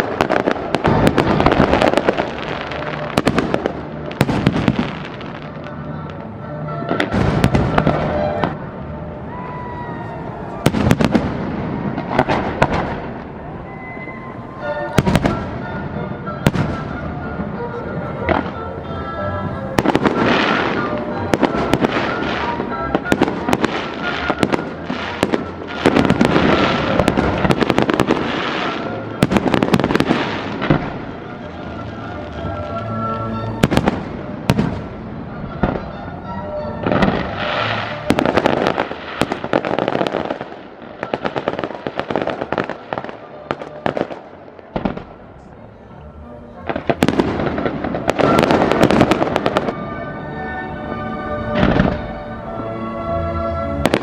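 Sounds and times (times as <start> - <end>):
fireworks bangs and crackling: 0.0 - 18.8, 19.4 - 54.0.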